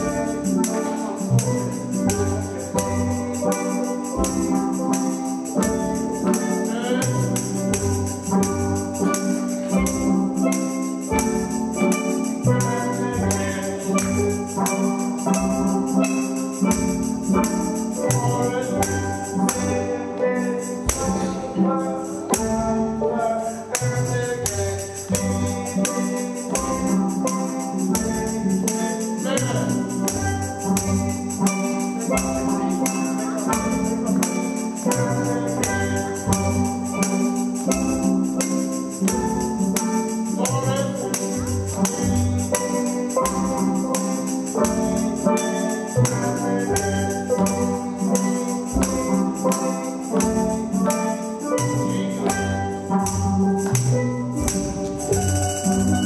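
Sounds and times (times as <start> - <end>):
percussion beat: 0.0 - 56.0
steel pan band playing: 0.0 - 56.0.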